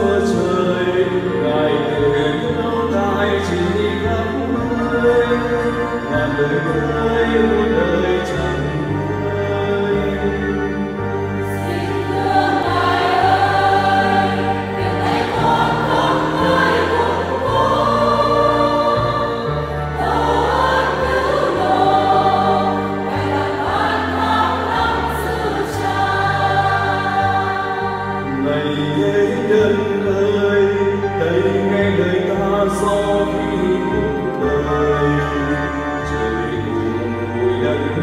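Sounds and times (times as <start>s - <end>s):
choir singing a hymn: 0.0s - 38.0s
held bass notes: 0.0s - 38.0s.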